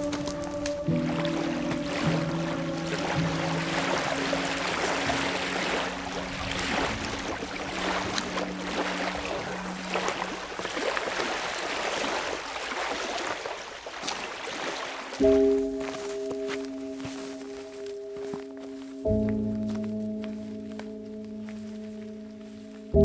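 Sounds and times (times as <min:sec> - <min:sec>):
small waves lapping on gravel: 0:00.0 - 0:19.0.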